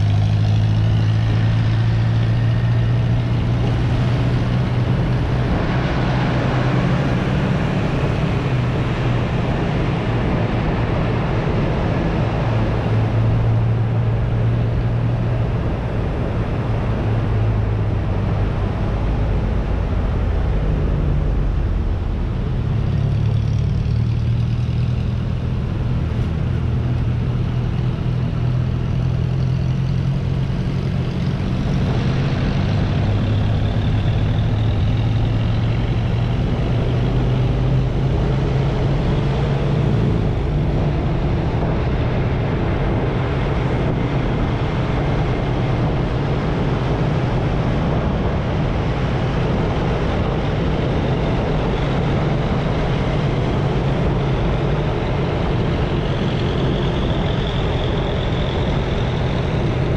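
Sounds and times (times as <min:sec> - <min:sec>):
motorcycle engine hum: 0:00.0 - 0:59.9
road and wind noise: 0:00.0 - 0:59.9.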